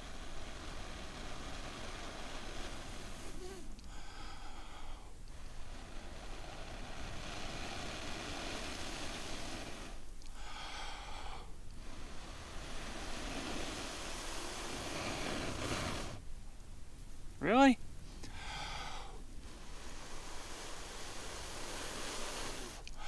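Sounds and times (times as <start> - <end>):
man blowing steady breaths: 0.0 - 17.3, 17.9 - 23.0.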